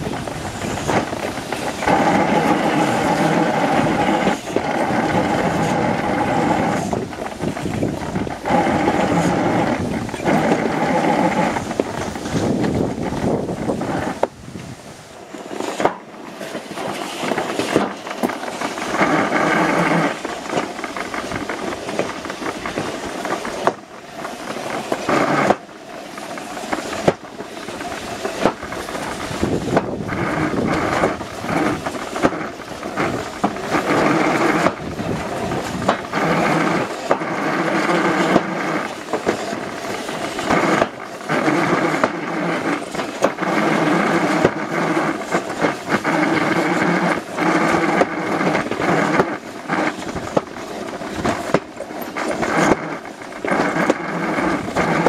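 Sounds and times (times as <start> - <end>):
bobsled rumbling on metal track: 0.0 - 55.0
wind on microphone: 0.0 - 55.0.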